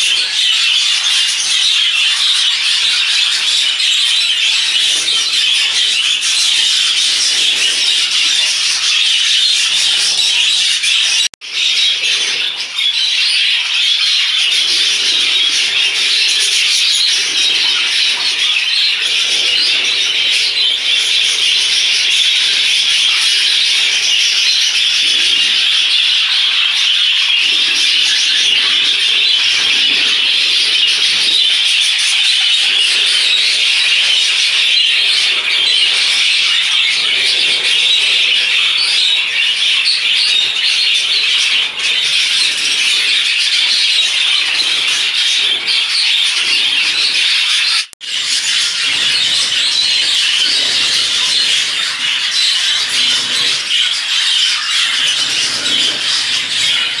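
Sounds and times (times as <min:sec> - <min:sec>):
flock of budgerigars chattering: 0:00.0 - 0:57.0.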